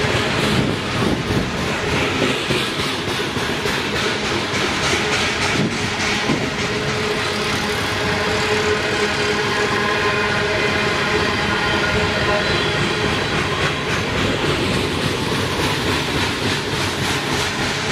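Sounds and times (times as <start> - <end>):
steel wheels clacking over rail joints: 0.0 - 17.9.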